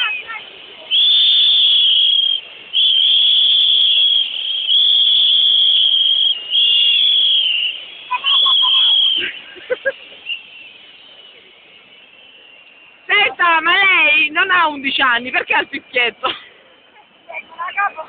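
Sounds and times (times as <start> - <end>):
shrill whistle blasts: 0.0 - 18.0.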